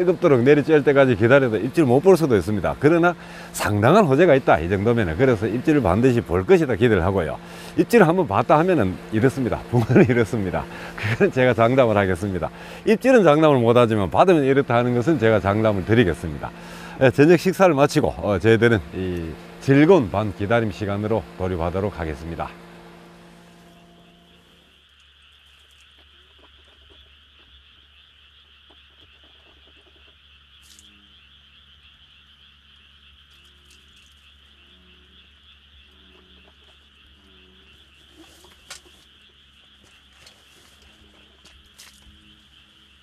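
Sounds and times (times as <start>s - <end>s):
frogs trilling: 0.0s - 43.0s
low frog croaks: 0.0s - 43.0s.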